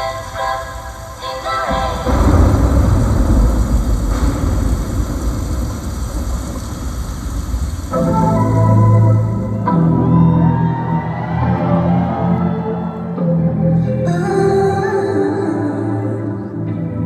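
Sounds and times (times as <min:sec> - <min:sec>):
music over sound system: 0:00.0 - 0:06.5, 0:07.7 - 0:17.0
low rumbling noise over speakers: 0:00.0 - 0:17.0.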